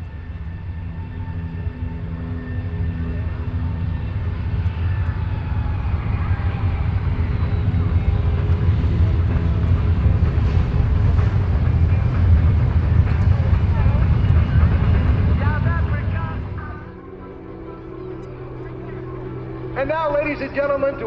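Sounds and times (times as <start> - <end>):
propeller plane engine passing: 0.0 - 21.0.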